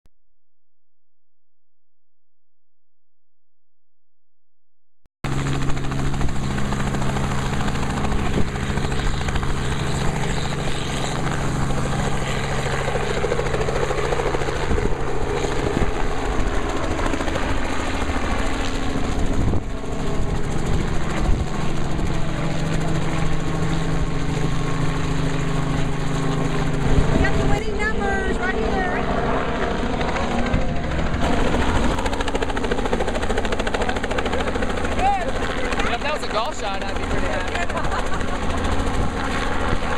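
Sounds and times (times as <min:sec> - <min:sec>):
helicopter rotor beating overhead: 0:05.2 - 0:39.9.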